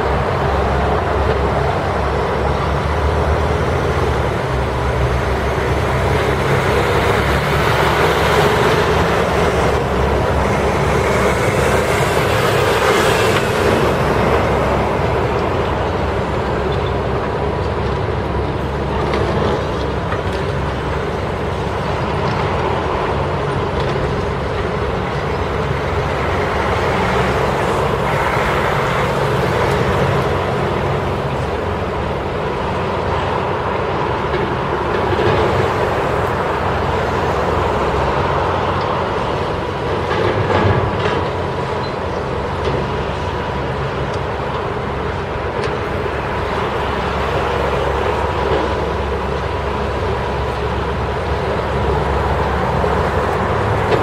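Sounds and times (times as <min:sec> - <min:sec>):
excavator diesel engines and hydraulics: 0:00.0 - 0:54.0.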